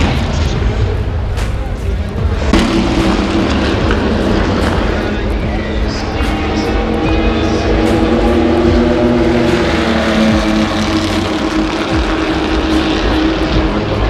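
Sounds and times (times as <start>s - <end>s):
racing car engine drone: 0.0s - 14.0s.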